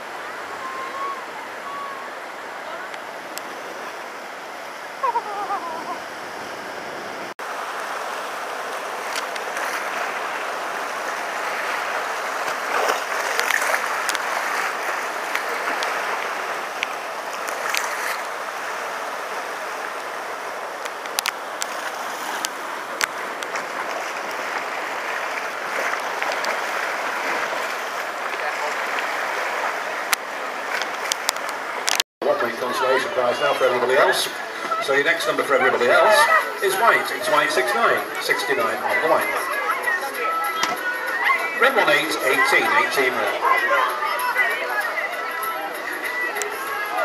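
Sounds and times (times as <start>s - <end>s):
surf splashing against concrete steps: 8.7s - 47.0s.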